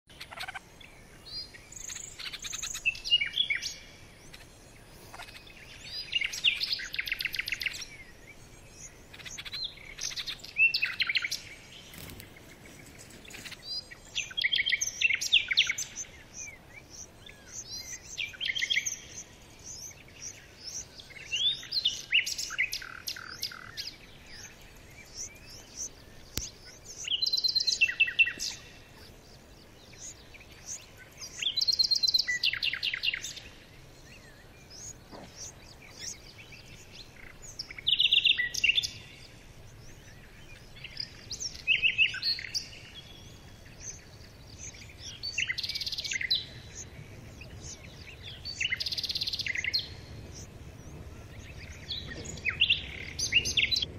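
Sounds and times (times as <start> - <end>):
nestlings chirping: 1.2 - 53.9.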